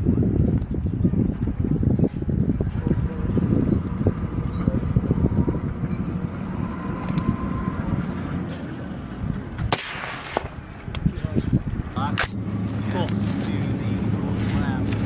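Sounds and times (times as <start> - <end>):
vehicle engine rumble: 0.0 - 15.0
wind buffeting microphone: 0.0 - 15.0.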